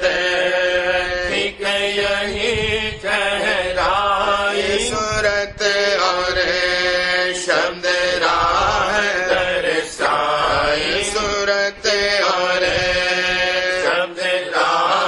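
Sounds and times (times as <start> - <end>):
person chanting a hymn: 0.0 - 15.0.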